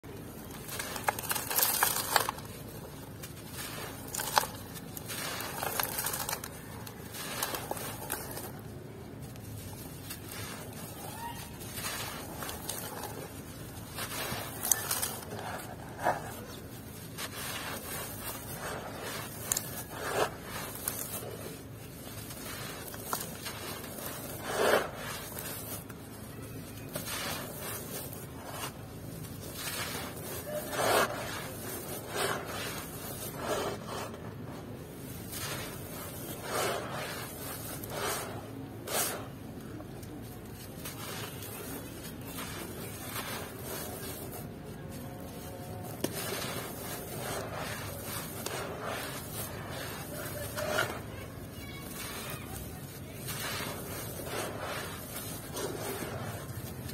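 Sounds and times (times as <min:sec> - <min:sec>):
dirt clump crunching: 0:00.1 - 0:56.9.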